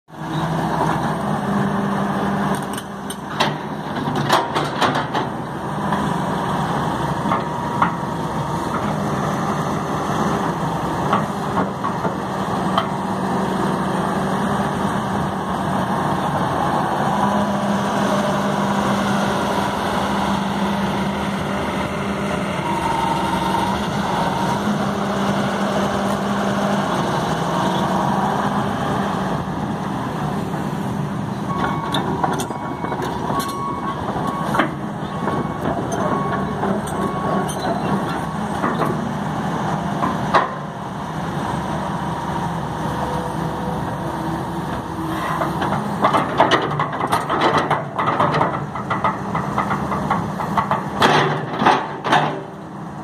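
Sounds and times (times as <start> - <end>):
excavator diesel engine running: 0.1 - 53.0.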